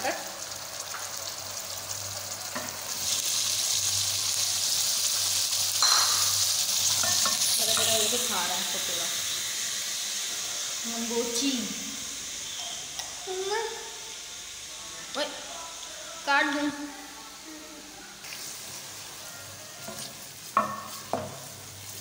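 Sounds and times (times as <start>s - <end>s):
onion paste frying in oil: 0.0s - 16.6s, 18.2s - 22.0s.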